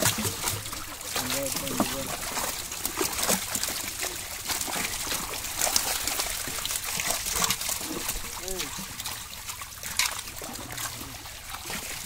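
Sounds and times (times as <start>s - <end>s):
fish thrashing and splashing in water: 0.0s - 12.0s.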